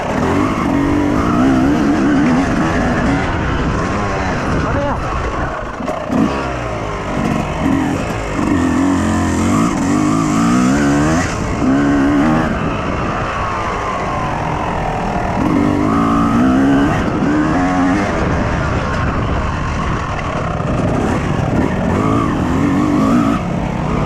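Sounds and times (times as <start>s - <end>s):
motocross engine revving: 0.0s - 24.0s.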